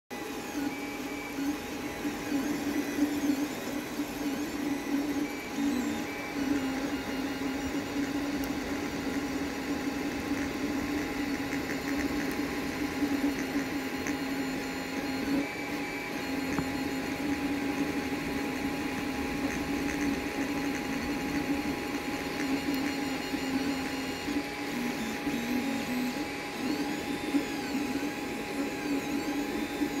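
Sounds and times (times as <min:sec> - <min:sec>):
steady hum: 0:00.2 - 0:30.0
stepper motors whining: 0:00.2 - 0:30.0.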